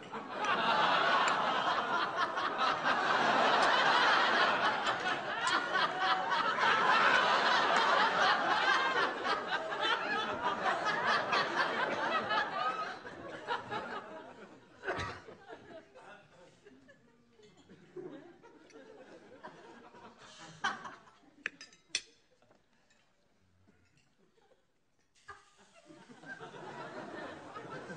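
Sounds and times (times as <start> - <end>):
audience laughing: 0.0 - 17.0, 17.8 - 21.2, 25.3 - 27.9.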